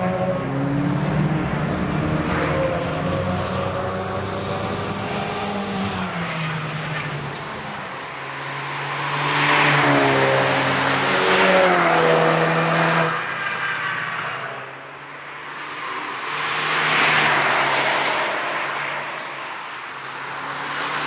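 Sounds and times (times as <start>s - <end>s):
cars passing under throttle: 0.0s - 21.0s.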